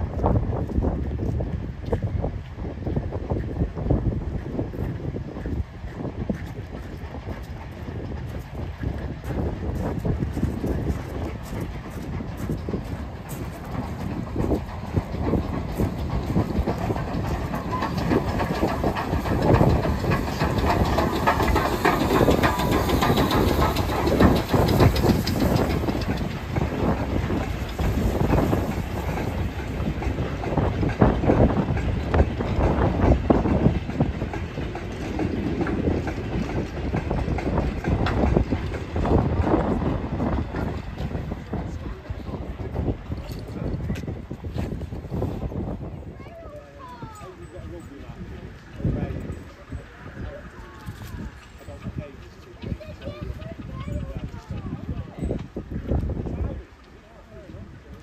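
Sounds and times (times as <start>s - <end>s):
train wheels and couplings clattering: 0.0s - 58.0s.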